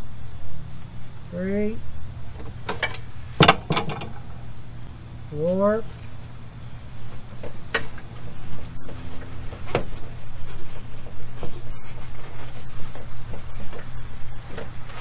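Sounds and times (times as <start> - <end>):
crickets chirring: 0.0 - 15.0
steady low hum: 0.0 - 15.0.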